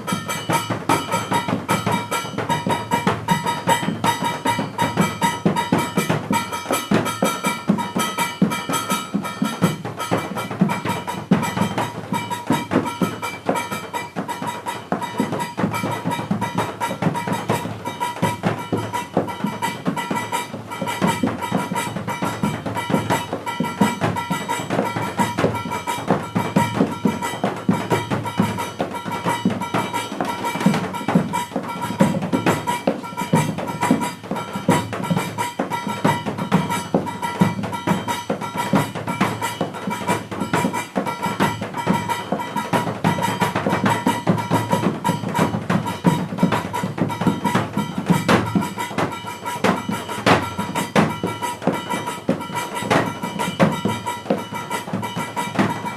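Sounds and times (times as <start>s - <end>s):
instrumental music with drums: 0.0s - 55.9s.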